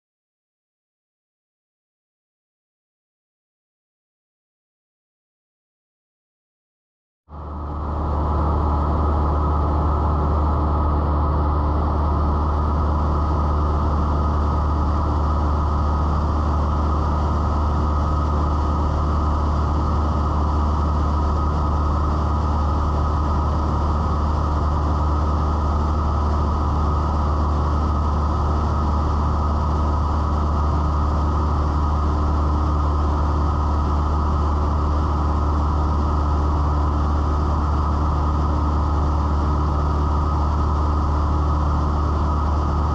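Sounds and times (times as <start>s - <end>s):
plane engine and propeller droning: 7.3s - 42.9s.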